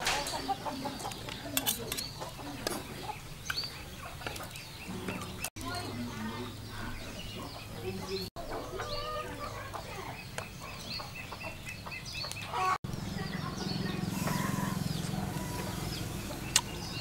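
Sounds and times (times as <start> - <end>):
chickens clucking: 0.0 - 17.0
small birds chirping: 0.0 - 17.0.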